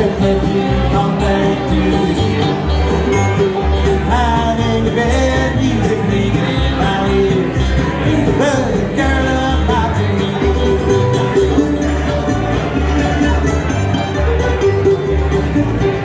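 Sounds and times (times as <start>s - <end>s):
bluegrass band playing: 0.0s - 16.0s
upright bass plucking: 0.0s - 16.0s.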